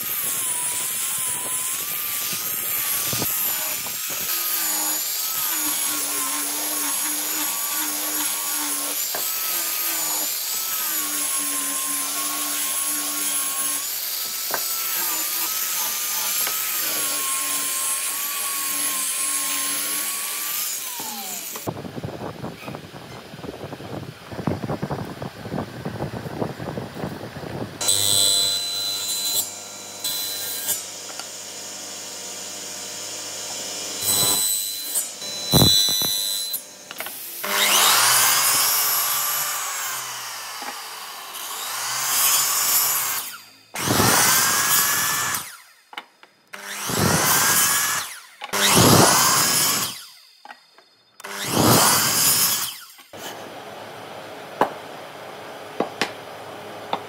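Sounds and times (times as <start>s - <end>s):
miter saw cutting wood: 0.0s - 21.7s, 27.8s - 45.7s, 46.5s - 50.4s, 51.2s - 54.0s.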